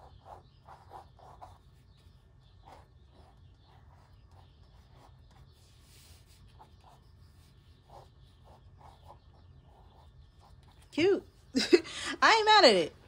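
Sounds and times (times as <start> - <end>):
pencil scratching on paper: 0.0 - 11.6.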